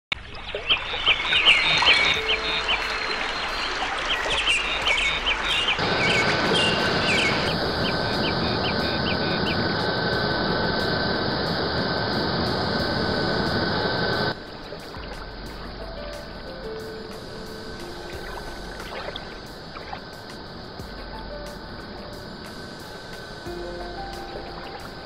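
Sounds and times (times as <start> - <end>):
birdsong: 0.2 - 11.0, 14.3 - 25.0
rushing hiss with high tone: 1.2 - 25.0.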